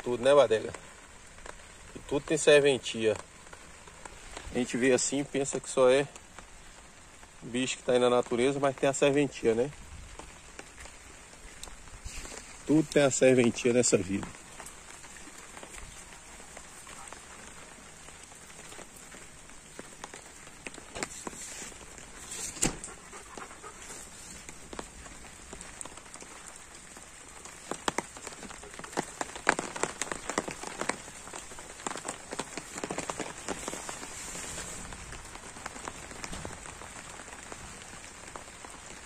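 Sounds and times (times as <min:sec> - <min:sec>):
light drizzle pattering: 0:00.0 - 0:39.0.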